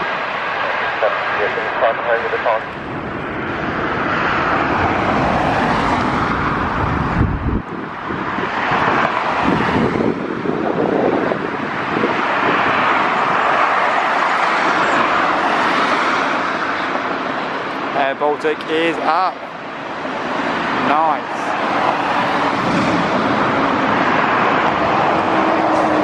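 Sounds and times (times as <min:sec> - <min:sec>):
wind buffeting microphone: 0:00.0 - 0:17.9, 0:18.6 - 0:26.0
jet engines at take-off: 0:00.0 - 0:26.0.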